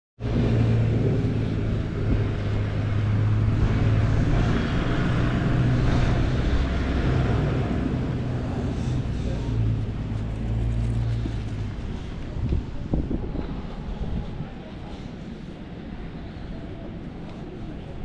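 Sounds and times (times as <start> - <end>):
broad rushing noise: 0.2 - 18.0
vehicle mechanical hum: 0.2 - 18.0.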